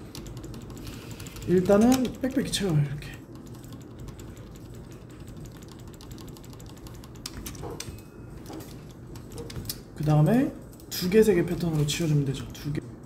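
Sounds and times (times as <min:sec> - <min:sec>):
keyboard keys clicking: 0:00.0 - 0:12.6.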